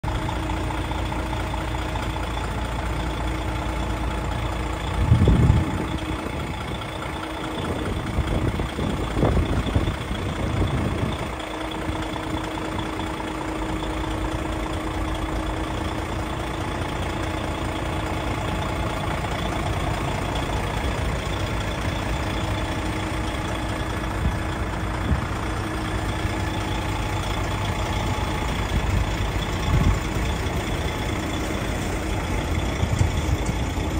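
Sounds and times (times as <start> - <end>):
diesel truck engine idling: 0.0 - 33.9
low rumbles: 0.0 - 33.9.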